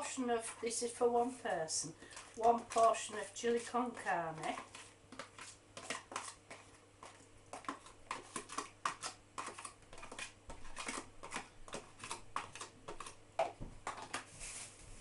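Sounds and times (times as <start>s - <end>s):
spoon scraping a dish: 0.0s - 0.9s, 1.9s - 13.2s.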